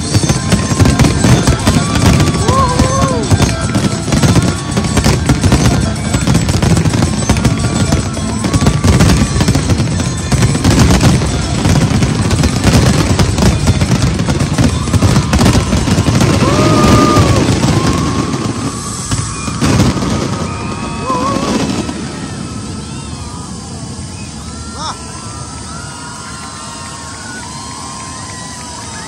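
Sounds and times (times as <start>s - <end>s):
fireworks bursting and crackling: 0.0s - 29.0s.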